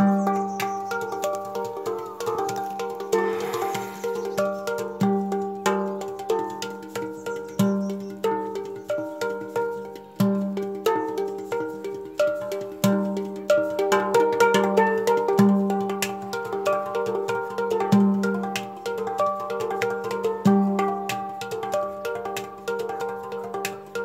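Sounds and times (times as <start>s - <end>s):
handpan low notes: 0.0s - 24.0s
handpan ringing higher notes: 0.0s - 24.0s.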